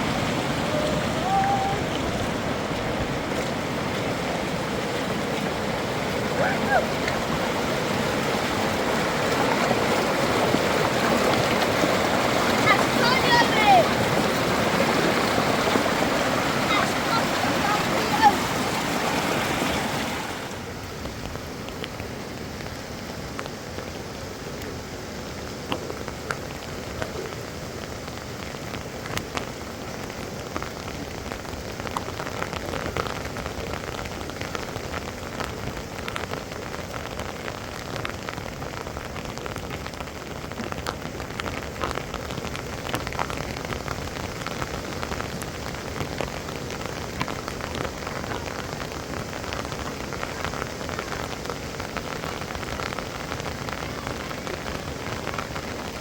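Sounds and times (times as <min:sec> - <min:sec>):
heavy rain falling: 0:00.0 - 0:56.0
raindrops hitting surfaces: 0:00.0 - 0:56.0.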